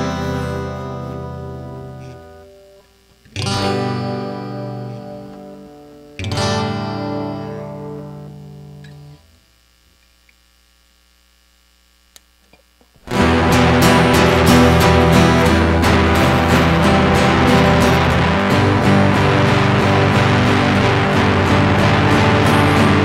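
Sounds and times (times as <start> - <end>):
guitar chords strummed: 0.0 - 9.4, 13.0 - 23.0.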